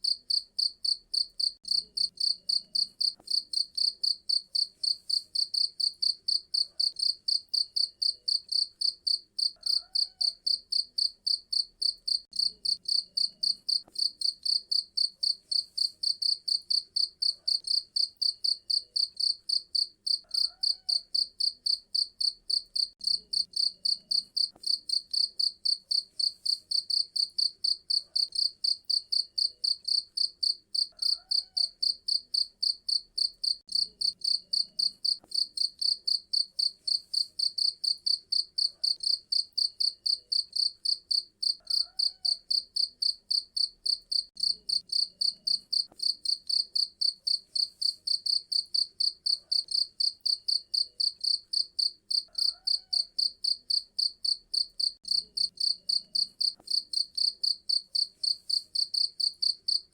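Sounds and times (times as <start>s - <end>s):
cricket chirping: 0.0s - 59.8s.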